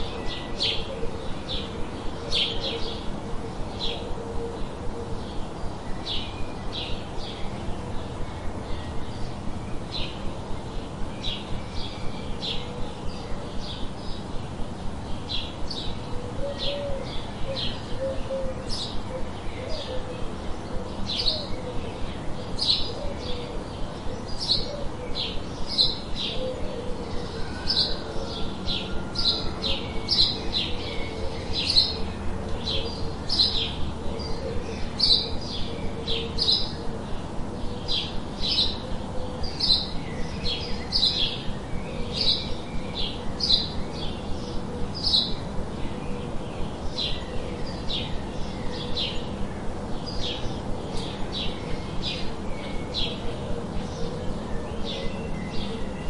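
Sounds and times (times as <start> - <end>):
birds chirping: 0.0 - 56.0
steady low tone: 0.0 - 56.0.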